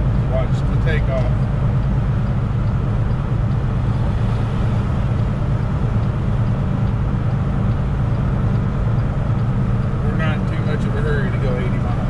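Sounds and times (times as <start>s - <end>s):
road noise inside cab: 0.0s - 12.0s
truck diesel engine drone: 0.0s - 12.0s.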